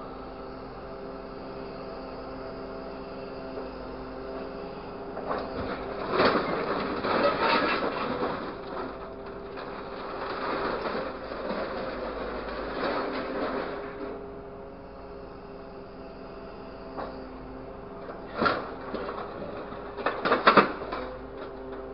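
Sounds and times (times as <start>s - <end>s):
diesel engine and hydraulic pump humming: 0.0s - 21.9s.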